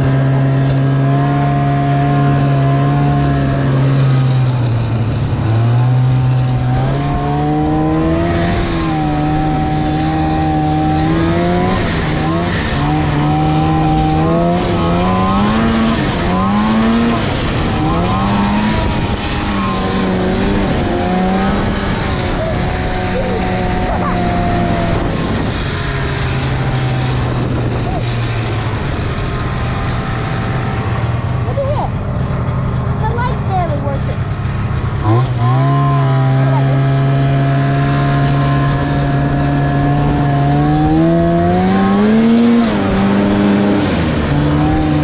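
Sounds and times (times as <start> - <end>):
snowmobile engine running: 0.0 - 45.0.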